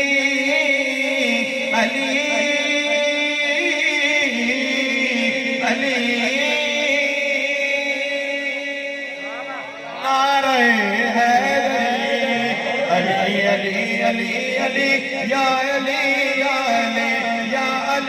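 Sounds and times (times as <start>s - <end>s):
man singing devotional song: 0.0s - 18.0s.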